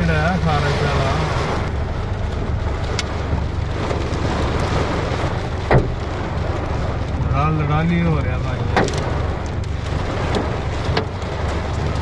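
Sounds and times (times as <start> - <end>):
low car rumble: 0.0 - 12.0
rain and hail on car roof: 0.0 - 12.0.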